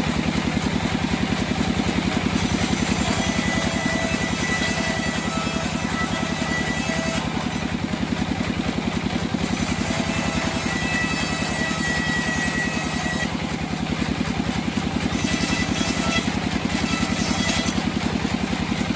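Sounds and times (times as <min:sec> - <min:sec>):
band blade sawing through log: 0:00.0 - 0:18.9
sawmill engine running: 0:00.0 - 0:18.9.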